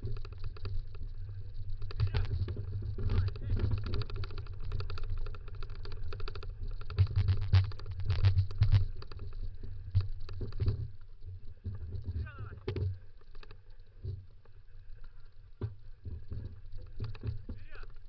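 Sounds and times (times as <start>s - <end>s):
scooter rolling over dirt trail: 0.0s - 18.0s.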